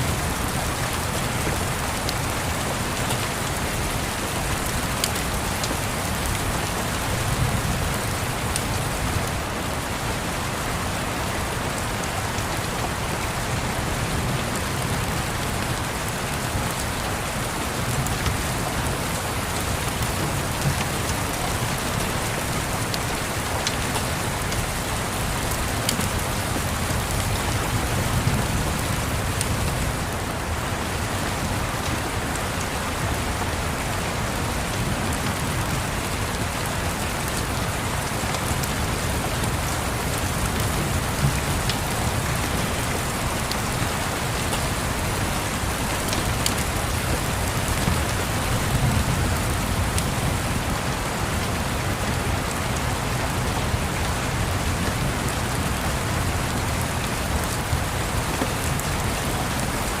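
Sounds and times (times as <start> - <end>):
rain pattering: 0.0 - 60.0.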